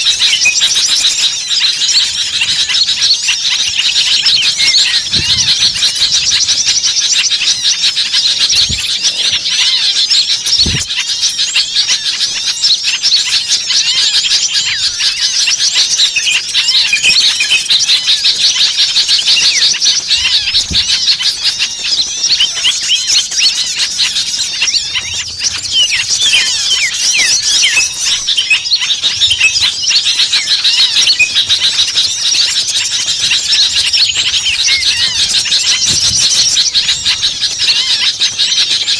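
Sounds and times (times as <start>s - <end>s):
flock of songbirds chirping: 0.0s - 38.9s.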